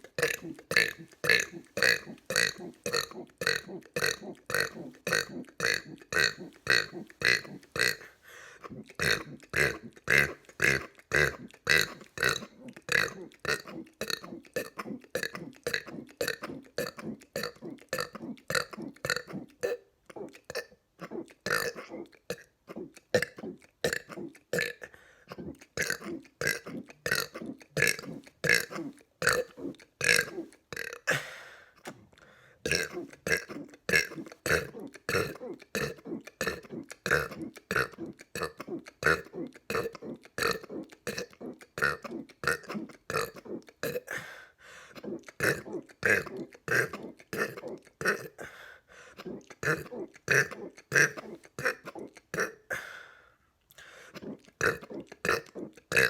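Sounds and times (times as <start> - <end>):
man burping: 0.0 - 8.1, 8.7 - 44.3, 54.2 - 56.0.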